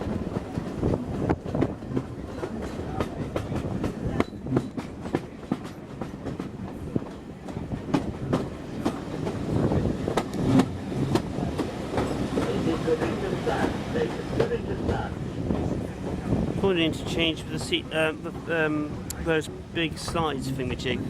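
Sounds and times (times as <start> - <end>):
railway carriage rumbling: 0.0 - 21.0.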